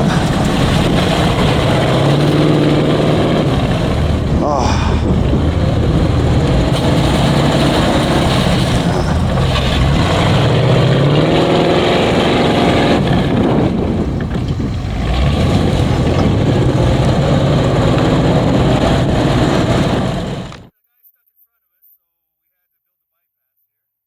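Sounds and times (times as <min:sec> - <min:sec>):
off-road vehicle engine under load: 0:00.0 - 0:20.7.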